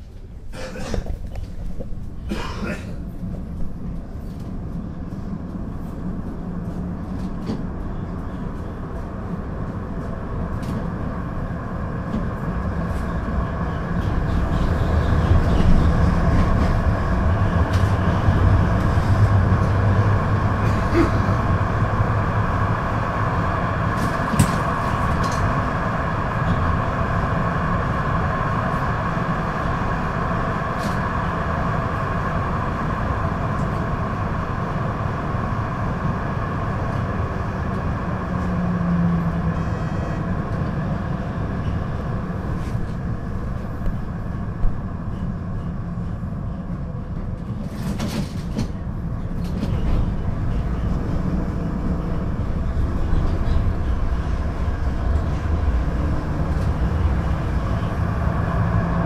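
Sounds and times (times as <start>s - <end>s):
tram running on rails: 0.0s - 59.0s.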